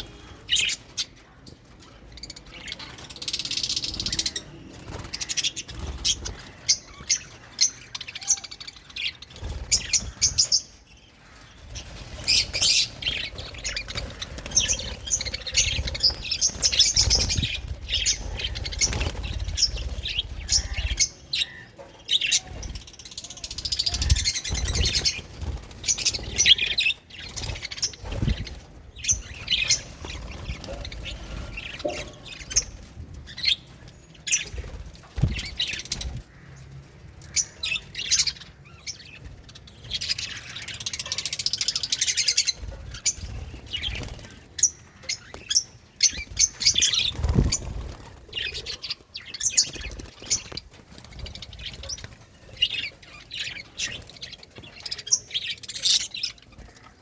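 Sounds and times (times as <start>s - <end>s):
budgerigars chirping and warbling: 0.0s - 57.0s.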